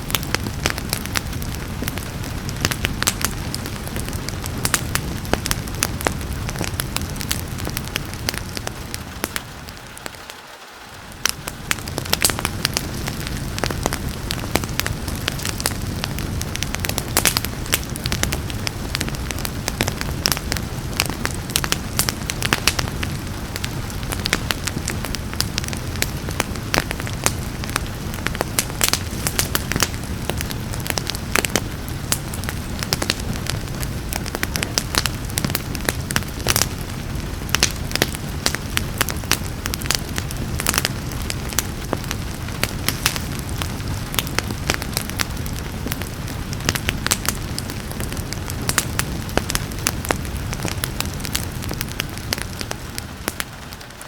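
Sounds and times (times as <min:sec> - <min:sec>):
rain hiss: 0:00.0 - 0:54.0
wood fire crackling and popping: 0:00.0 - 0:54.0.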